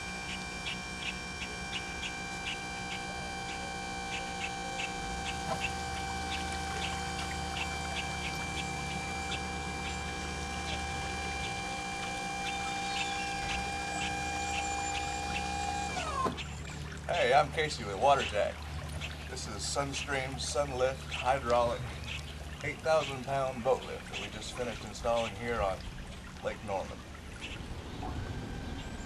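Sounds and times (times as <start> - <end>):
hydraulic pump whining: 0.0 - 26.4.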